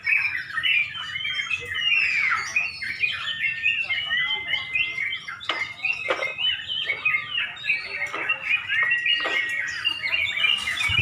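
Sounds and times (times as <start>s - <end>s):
birds chirping and warbling: 0.0s - 11.0s.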